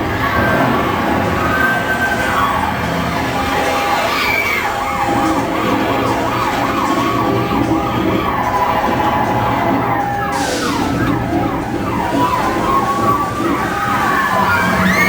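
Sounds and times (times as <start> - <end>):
wailing siren: 0.0 - 15.0
yelping siren: 1.7 - 15.0.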